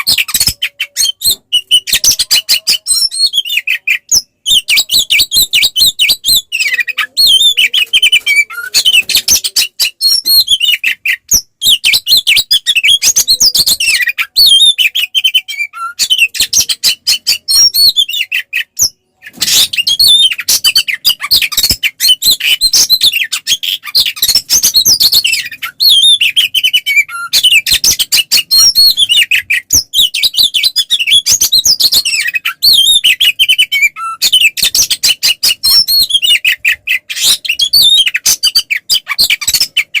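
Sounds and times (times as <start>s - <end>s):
magpie-robin singing rapid chirps: 0.0s - 40.0s.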